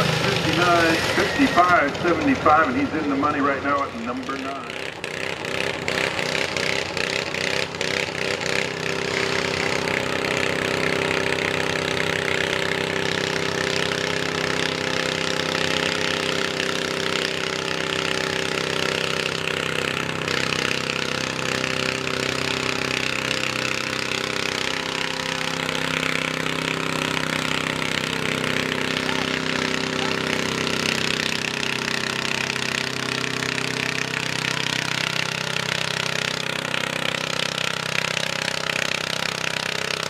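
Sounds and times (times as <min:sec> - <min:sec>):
garden tractor engine under load: 0:00.0 - 0:40.0.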